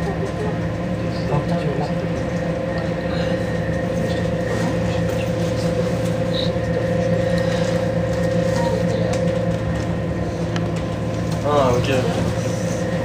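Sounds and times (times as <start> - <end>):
constant whine: 0.0 - 13.0
passenger train rumble and hum: 0.0 - 13.0.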